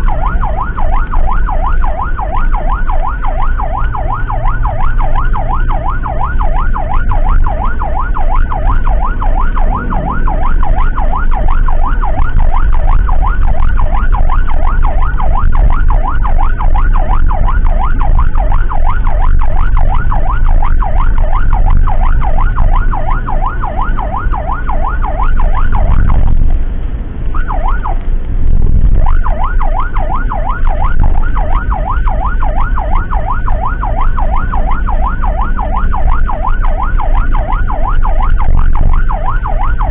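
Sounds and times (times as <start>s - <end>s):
emergency siren yelping: 0.0s - 26.6s, 27.2s - 39.9s
vehicle rumble on road: 0.0s - 39.9s.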